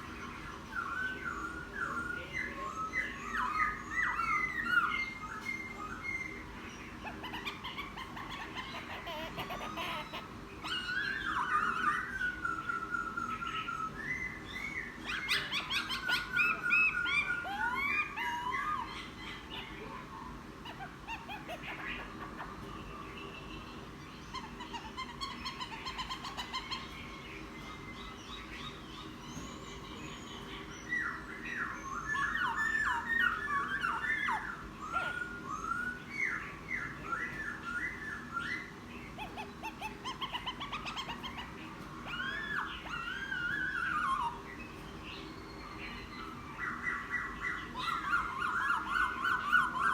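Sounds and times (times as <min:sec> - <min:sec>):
bird singing whistles and trills: 0:00.0 - 0:08.8, 0:10.6 - 0:19.7, 0:20.7 - 0:49.9
faint steady low hum: 0:00.0 - 0:49.9.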